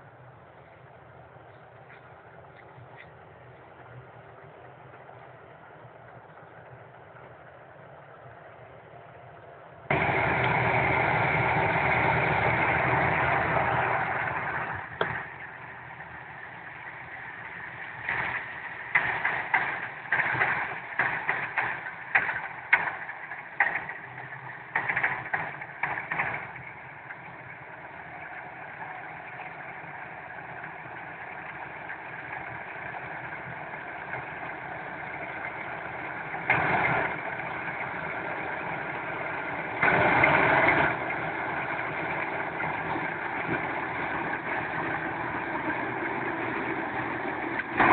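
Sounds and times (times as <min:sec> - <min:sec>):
harvesting machine engine running: 0:00.0 - 0:47.9.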